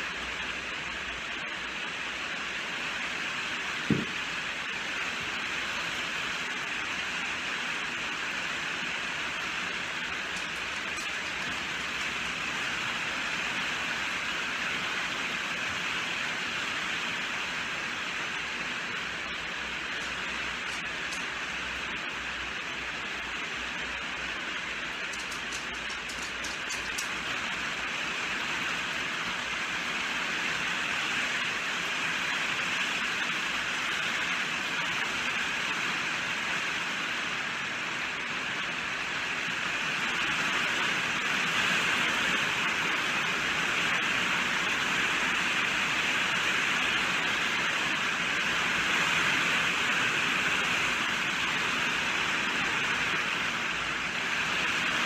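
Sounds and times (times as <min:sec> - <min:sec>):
heavy rainfall hiss: 0:00.0 - 0:55.0.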